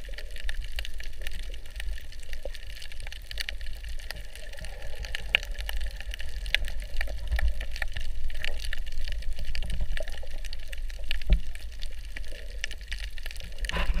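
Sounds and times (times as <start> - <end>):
sharp underwater clicks and crackles: 0.0 - 14.0
underwater rumble of moving water: 0.0 - 14.0.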